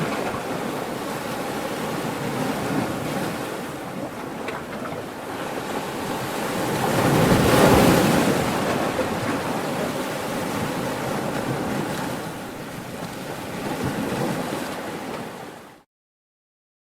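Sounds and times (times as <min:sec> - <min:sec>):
ocean waves: 0:00.0 - 0:15.9.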